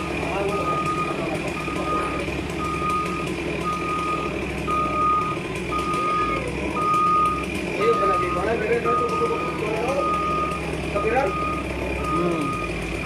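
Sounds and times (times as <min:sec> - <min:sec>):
diesel engine running: 0:00.0 - 0:13.0
backup alarm beeping: 0:00.5 - 0:12.8.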